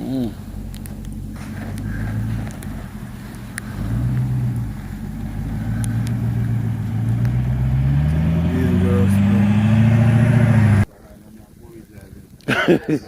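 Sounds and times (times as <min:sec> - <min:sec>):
vehicle engine humming: 0:00.0 - 0:10.9.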